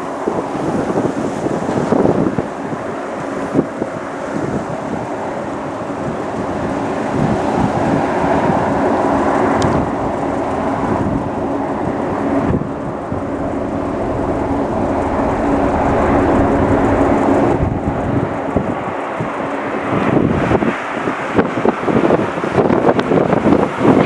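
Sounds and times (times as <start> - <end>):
airliner engines droning: 0.0 - 24.0
wind buffeting microphone: 0.0 - 24.0.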